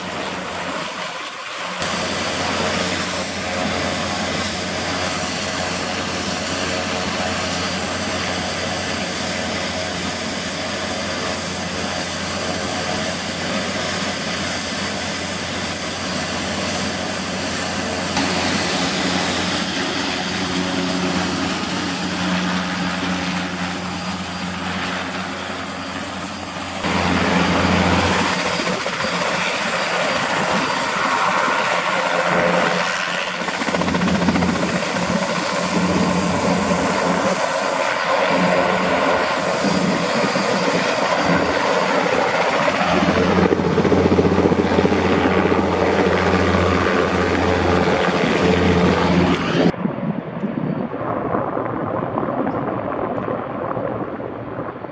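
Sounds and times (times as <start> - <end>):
helicopter rotor noise: 0.0 - 49.9
helicopter turbine whine: 0.0 - 50.8.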